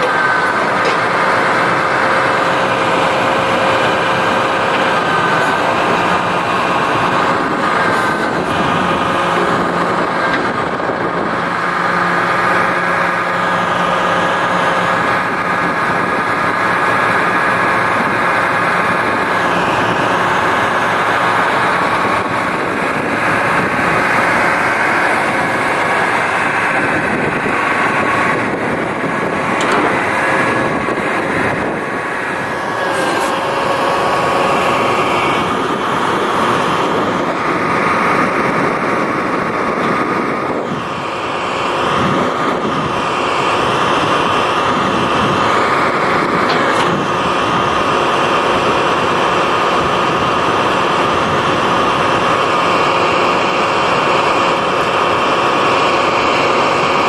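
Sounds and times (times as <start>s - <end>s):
diesel truck engine running: 0.0s - 57.0s
engine whine: 0.0s - 57.0s.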